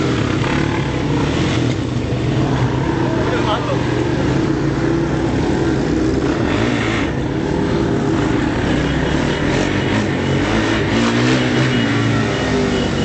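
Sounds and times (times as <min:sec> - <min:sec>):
motorbike engines running: 0:00.0 - 0:13.0.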